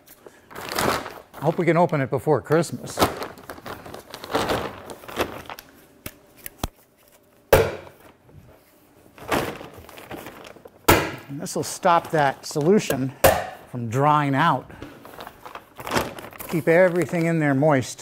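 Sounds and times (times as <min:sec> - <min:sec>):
plastic sheeting crinkling: 0:00.0 - 0:07.4, 0:08.6 - 0:13.1, 0:13.9 - 0:18.0.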